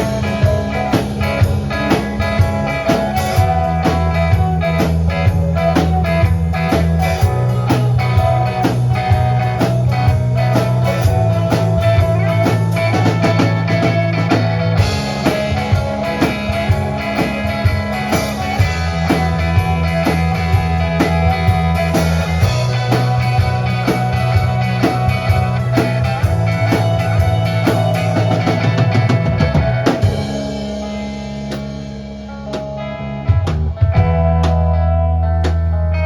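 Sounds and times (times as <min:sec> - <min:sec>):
drum kit steady beat: 0:00.0 - 0:35.9
bass notes: 0:00.0 - 0:36.0
guitar: 0:00.0 - 0:36.0.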